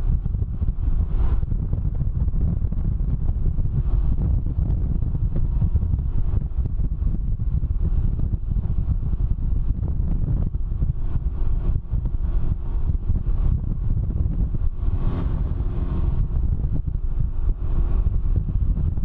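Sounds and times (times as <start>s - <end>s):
faint engine running: 0.0s - 19.0s
wind buffeting microphone: 0.0s - 19.0s.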